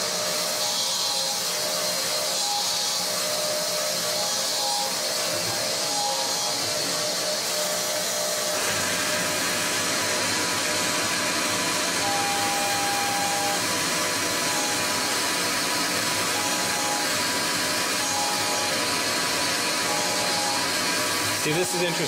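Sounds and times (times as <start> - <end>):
lathe spindle whirring: 0.0 - 22.0.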